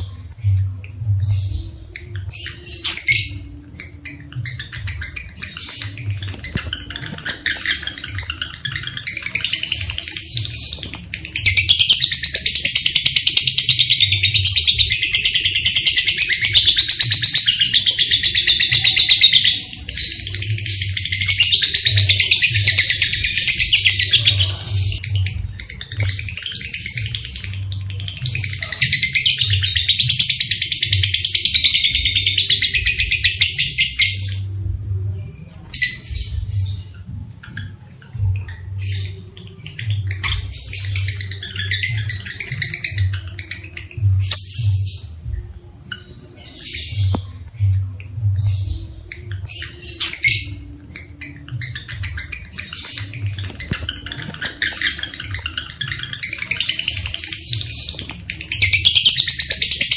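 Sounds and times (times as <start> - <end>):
lovebirds chattering trills: 0.0 - 59.9.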